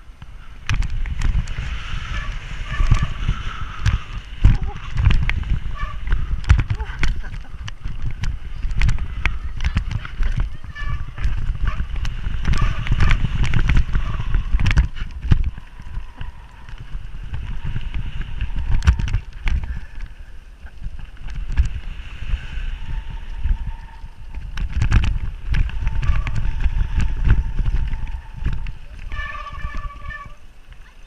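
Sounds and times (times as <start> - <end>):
bike tyre rumble: 0.0 - 31.0
wind buffeting microphone: 0.0 - 31.0.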